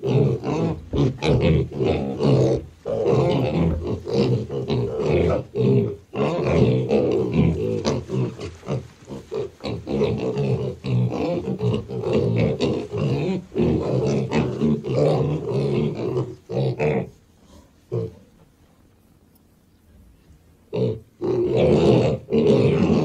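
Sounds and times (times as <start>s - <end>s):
piglets grunting: 0.0s - 18.3s, 20.7s - 23.0s.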